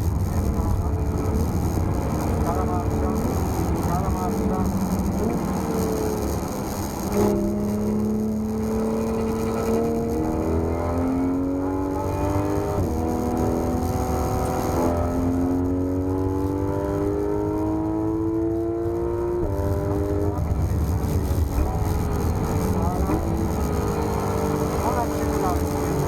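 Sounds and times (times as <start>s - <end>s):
car engine accelerating through gears: 0.0s - 26.0s.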